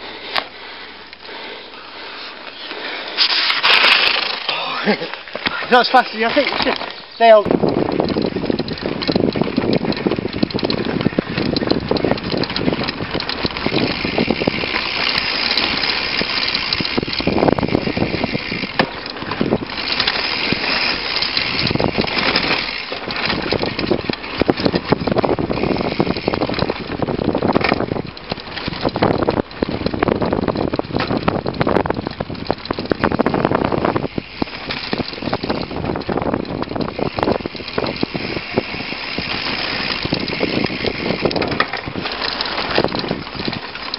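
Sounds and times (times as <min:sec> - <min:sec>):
bike rattling over bumps: 0:00.0 - 0:43.9
knobby tyres on gravel trail: 0:00.0 - 0:43.9
wind on the microphone: 0:07.4 - 0:43.9.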